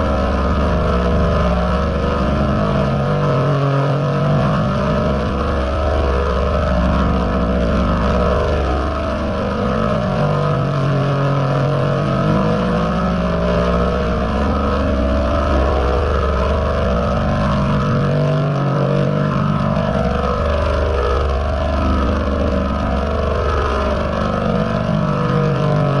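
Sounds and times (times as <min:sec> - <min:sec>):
dense drone with bending tones: 0:00.0 - 0:26.0.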